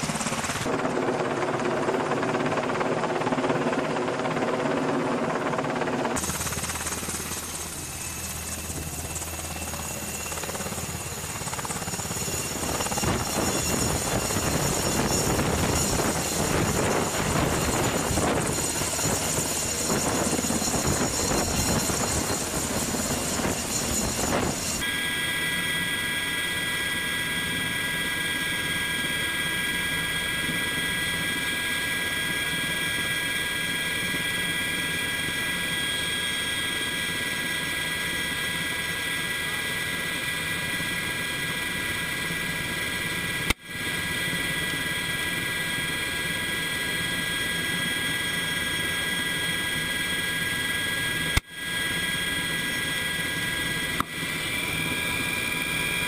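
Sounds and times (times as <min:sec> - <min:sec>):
helicopter turbine and rotor din: 0:00.0 - 0:56.0.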